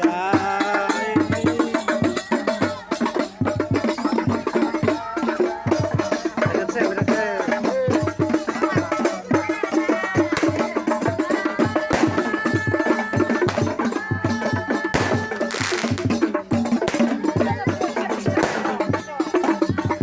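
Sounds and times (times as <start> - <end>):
devotional singing: 0.0 - 20.0
rhythmic percussion: 0.0 - 20.0.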